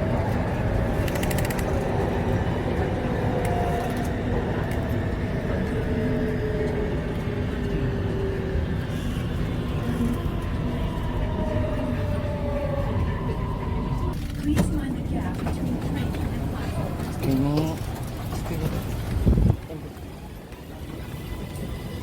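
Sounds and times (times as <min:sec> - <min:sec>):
vehicle rumbling in motion: 0:00.0 - 0:22.0.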